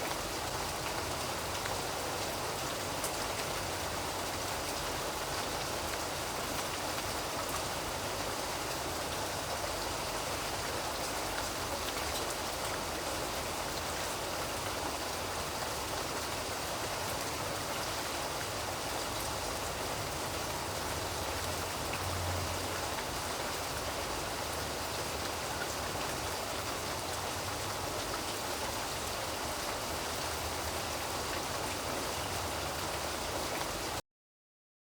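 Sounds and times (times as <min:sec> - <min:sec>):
rain pattering: 0:00.0 - 0:34.0.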